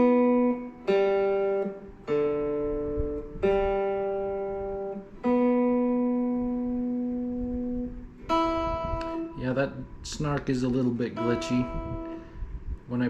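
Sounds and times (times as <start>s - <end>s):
guitar strings plucked: 0.0s - 12.5s.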